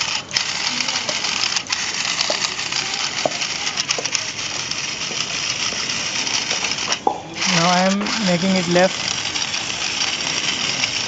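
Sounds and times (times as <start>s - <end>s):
robot motors whirring: 0.0s - 11.0s.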